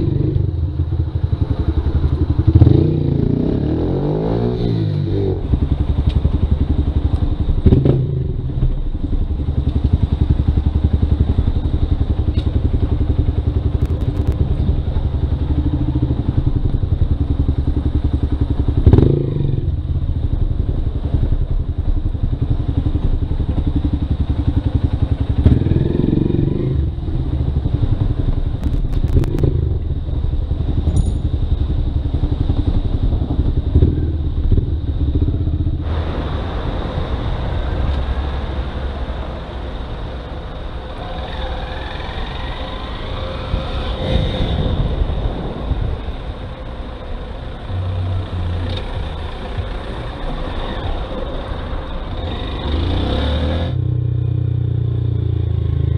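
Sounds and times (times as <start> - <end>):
motorcycle engine running: 0.0 - 37.8, 38.6 - 55.9
road noise hiss: 0.0 - 55.9.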